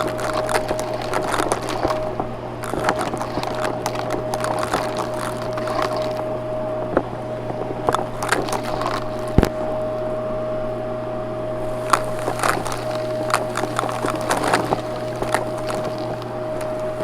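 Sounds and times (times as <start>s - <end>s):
clicks and crackles: 0.0s - 10.0s, 11.6s - 17.0s
vacuum cleaner running: 0.0s - 17.0s.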